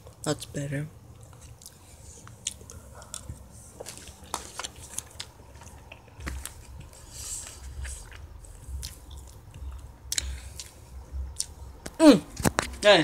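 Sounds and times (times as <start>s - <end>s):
person chewing crunchy snack: 1.2s - 12.0s.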